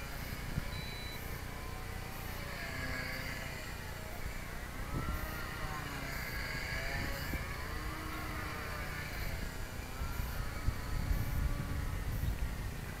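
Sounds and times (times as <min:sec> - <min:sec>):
model plane propeller whining: 0:00.0 - 0:13.0
wind on microphone: 0:00.0 - 0:13.0.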